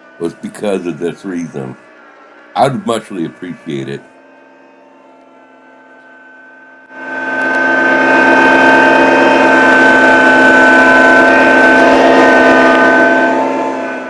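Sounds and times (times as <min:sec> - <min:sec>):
steady high whine: 0:00.0 - 0:14.0
tractor diesel engine running: 0:00.0 - 0:14.0.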